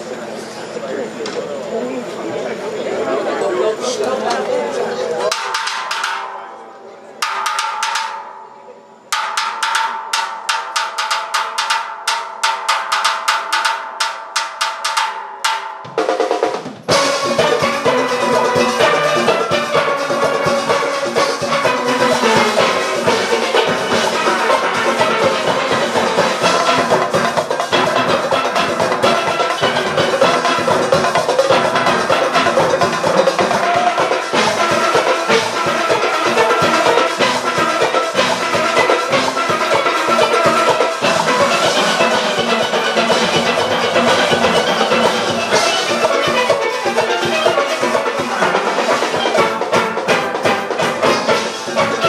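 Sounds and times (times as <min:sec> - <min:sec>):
steel band playing: 0:02.9 - 0:52.0
drum kit and percussion: 0:05.2 - 0:06.6, 0:07.2 - 0:52.0
held steel pan tones: 0:05.3 - 0:52.0
clicking beat: 0:07.2 - 0:08.4, 0:09.1 - 0:52.0.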